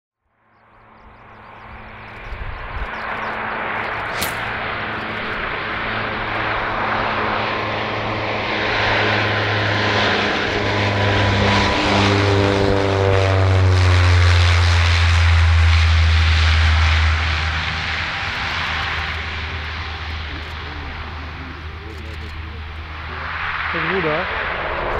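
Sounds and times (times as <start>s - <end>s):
turboprop aircraft drone: 0.2s - 24.9s
whining engine tones: 0.6s - 24.9s.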